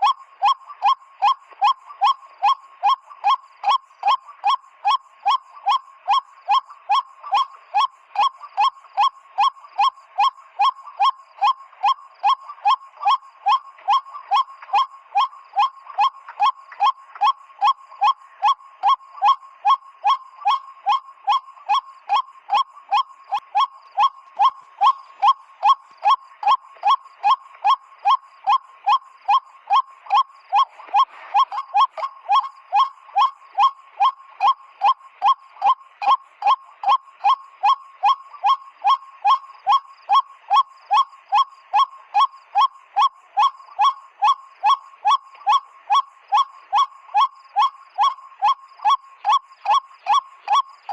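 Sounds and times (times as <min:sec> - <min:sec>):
pipe bird call blown: 0:00.0 - 0:50.9.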